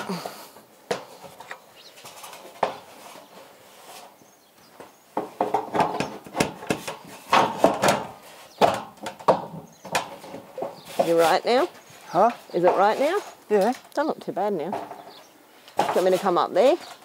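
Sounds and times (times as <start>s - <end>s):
metal roofing sheet clattering: 0.0s - 4.2s, 4.8s - 13.9s, 14.6s - 17.0s.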